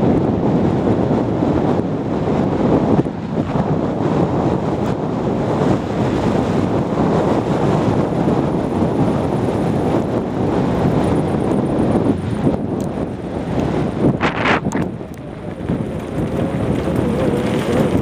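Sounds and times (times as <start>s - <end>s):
bicycle rolling off-road: 0.0s - 18.0s
wind buffeting microphone: 0.0s - 18.0s.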